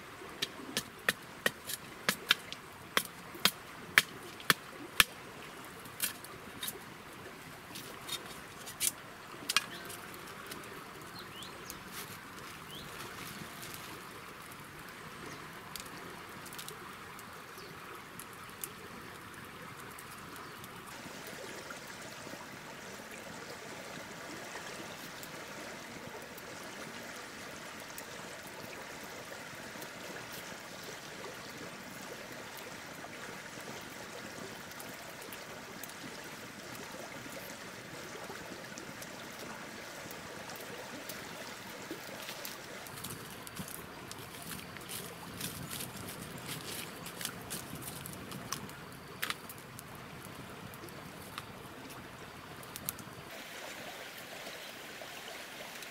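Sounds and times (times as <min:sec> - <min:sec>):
steady outdoor hiss: 0:00.0 - 0:55.9.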